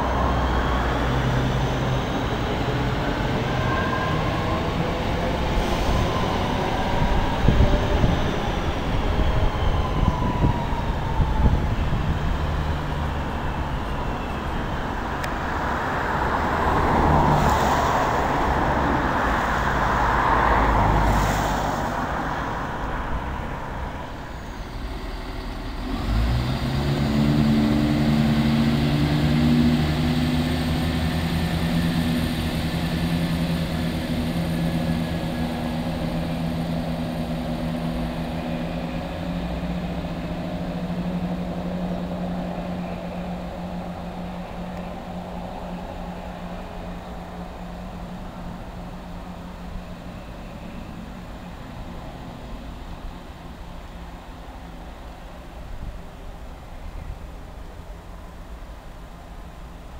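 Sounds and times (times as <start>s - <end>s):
diesel train engines droning: 0.0s - 59.9s
electric train passing: 0.0s - 59.9s.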